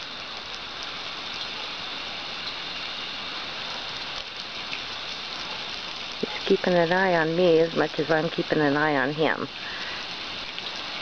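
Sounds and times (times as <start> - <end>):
hose water spraying: 0.0 - 11.0
water splashing on grass: 0.0 - 11.0.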